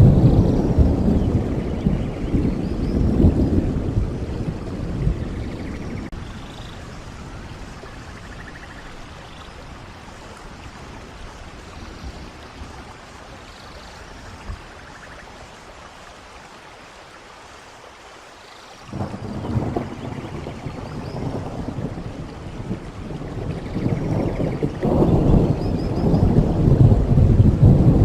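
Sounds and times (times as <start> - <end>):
rain falling: 0.0 - 28.0
waterfall rushing: 4.3 - 27.8.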